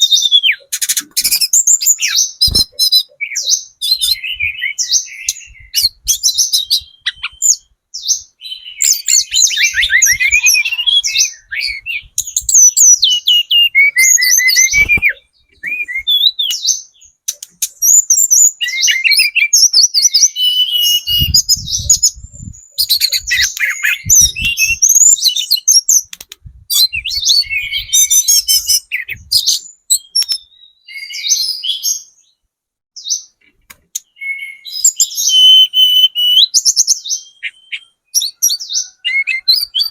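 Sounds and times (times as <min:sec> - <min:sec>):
bird twittering and warbling: 0:00.0 - 0:32.2.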